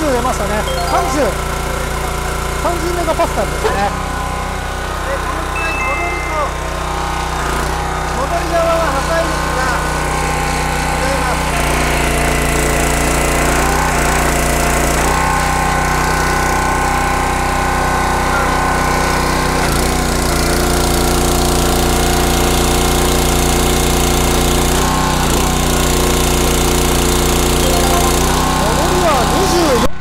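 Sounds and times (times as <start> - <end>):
small gasoline engine running: 0.0 - 29.9.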